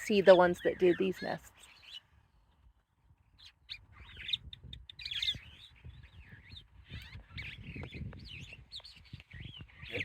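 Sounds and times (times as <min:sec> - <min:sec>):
songbirds chirping and chattering: 0:00.0 - 0:10.0.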